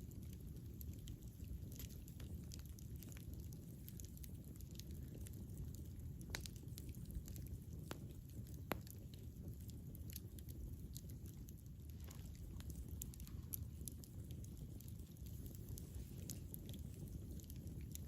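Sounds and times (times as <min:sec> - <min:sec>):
fire crackles and pops: 0:00.0 - 0:18.0
flames rumbling: 0:00.0 - 0:18.0.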